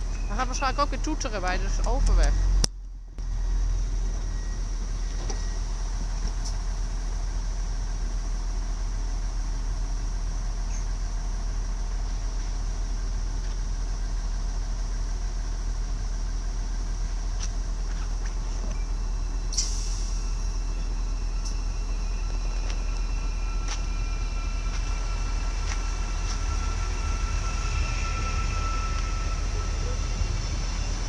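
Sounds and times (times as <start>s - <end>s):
trains idling hum and rumble: 0.0s - 31.0s.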